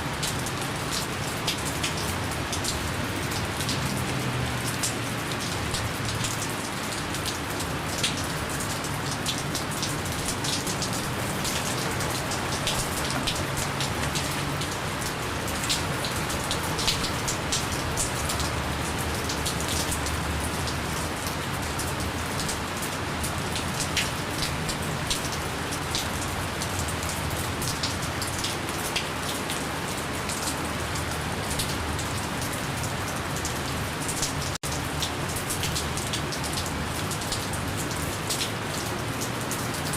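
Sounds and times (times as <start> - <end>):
gentle rain falling: 0.0 - 39.9
raindrops ticking: 0.1 - 39.9.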